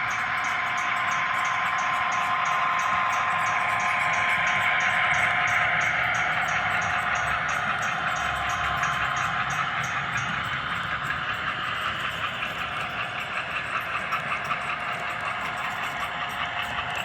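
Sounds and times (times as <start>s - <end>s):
model train rolling: 0.0s - 17.0s.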